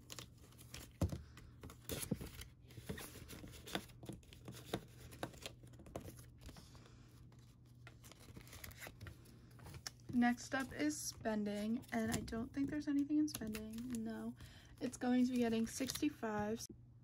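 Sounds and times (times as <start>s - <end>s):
paper envelope rustling: 0.0s - 16.1s.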